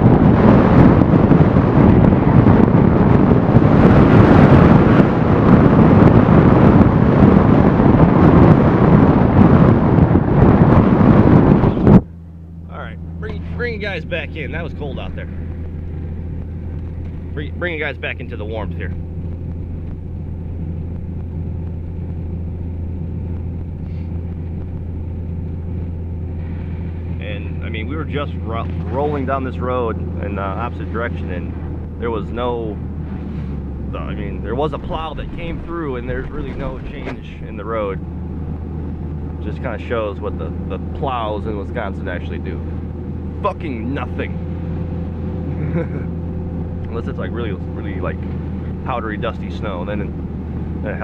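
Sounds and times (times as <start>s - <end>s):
vehicle road and engine rumble: 0.0s - 51.0s
wind buffeting microphone: 0.0s - 51.0s.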